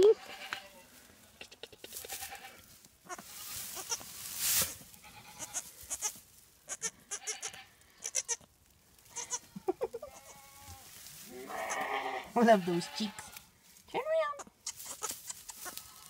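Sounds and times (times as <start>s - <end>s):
goat kid bleating: 0.0s - 4.1s, 4.8s - 13.5s, 14.1s - 16.0s
rustling in straw: 0.0s - 16.0s.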